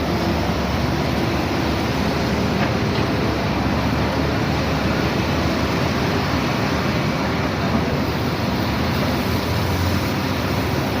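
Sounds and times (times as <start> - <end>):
heavy diesel machinery running: 0.0 - 11.0.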